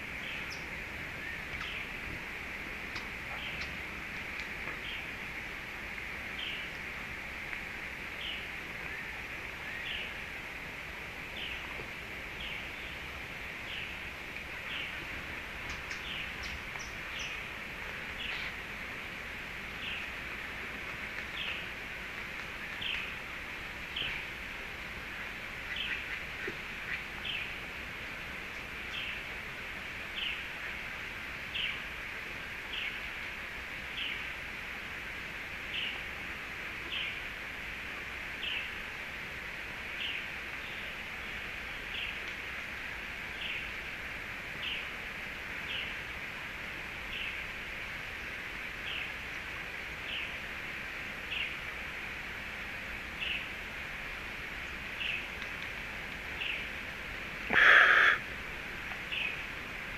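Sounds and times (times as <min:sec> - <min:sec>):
outdoor background hiss: 0:00.0 - 0:59.9.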